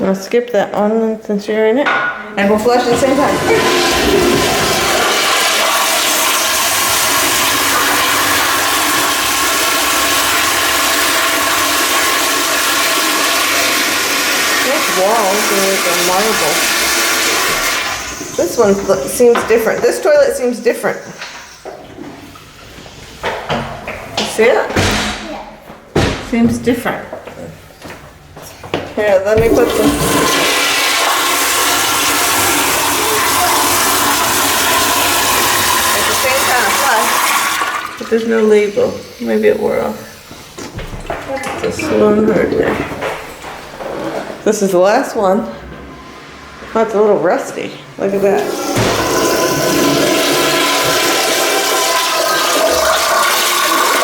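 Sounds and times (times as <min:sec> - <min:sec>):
toilets flushing: 0:02.2 - 0:25.0, 0:29.0 - 0:54.0.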